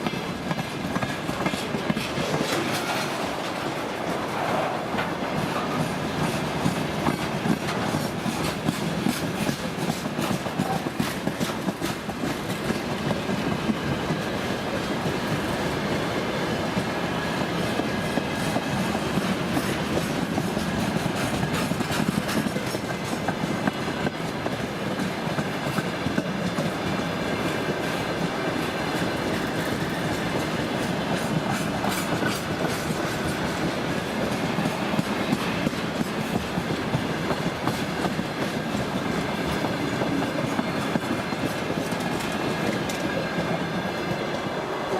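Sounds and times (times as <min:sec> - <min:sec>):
train rumble: 0:00.0 - 0:44.9
train wheels clicking over rail joints: 0:00.0 - 0:44.9.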